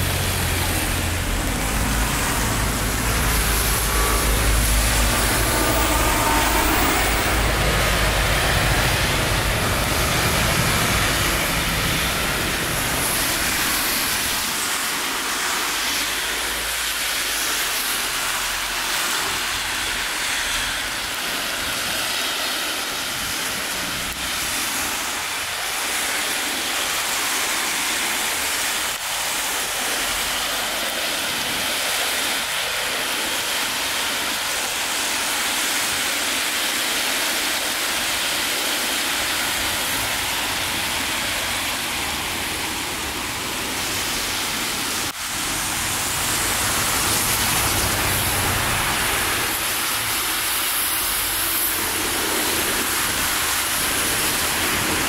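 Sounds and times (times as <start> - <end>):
rain falling: 0.0 - 55.0
traffic on wet road: 0.0 - 55.0.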